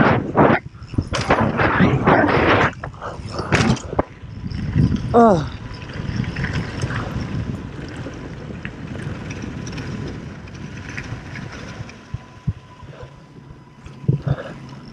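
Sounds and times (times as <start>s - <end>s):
rattles and clicks: 0.0s - 13.1s
bike tyres rolling on gravel: 0.0s - 14.9s
wind buffeting microphone: 0.0s - 14.9s.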